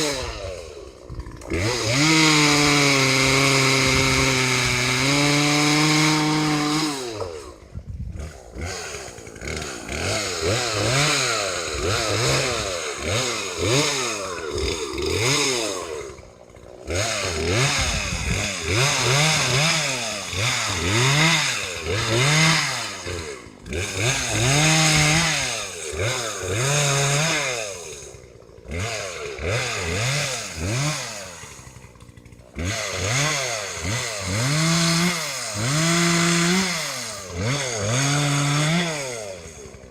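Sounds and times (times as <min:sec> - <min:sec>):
chainsaw revving while cutting wood: 0:00.0 - 0:39.9.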